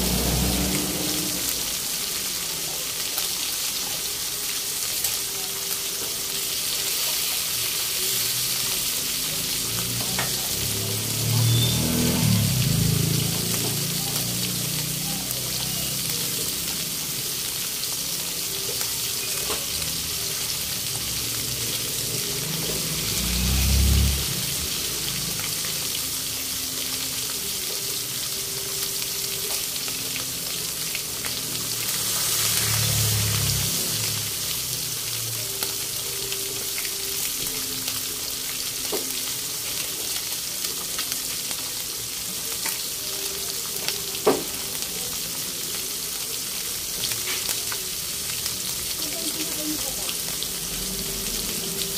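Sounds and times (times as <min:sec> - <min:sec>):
fish frying in oil: 0:00.0 - 0:51.9.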